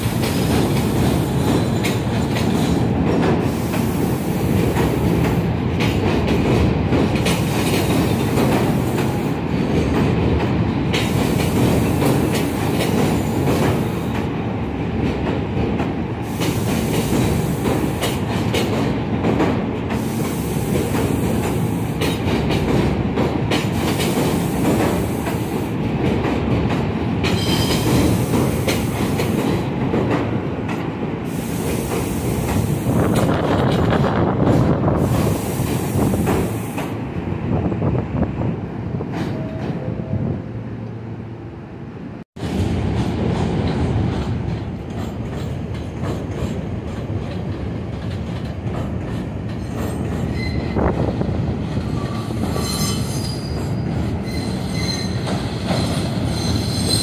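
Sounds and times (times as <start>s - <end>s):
subway train rumbling on track: 0.0s - 57.0s.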